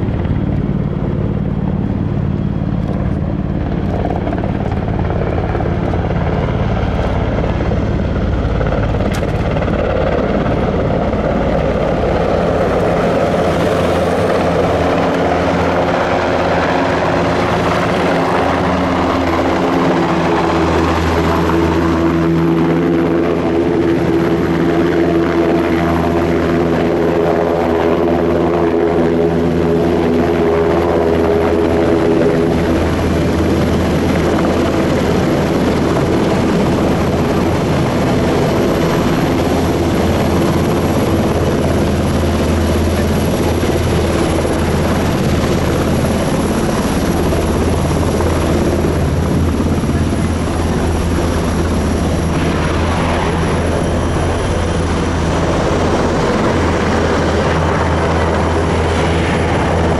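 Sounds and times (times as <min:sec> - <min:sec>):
helicopter rotors and engines: 0:00.0 - 0:59.9
hovering helicopter hum: 0:00.0 - 0:59.9.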